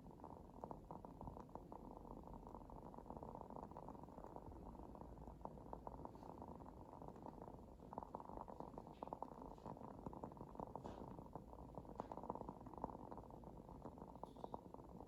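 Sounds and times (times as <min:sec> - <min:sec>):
candle crackling: 0:01.9 - 0:15.0.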